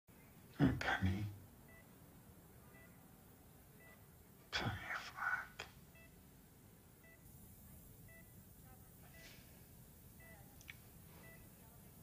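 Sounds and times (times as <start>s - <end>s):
faint room hum: 0.1s - 12.0s
patient monitor beeping: 0.6s - 5.2s, 5.8s - 12.0s.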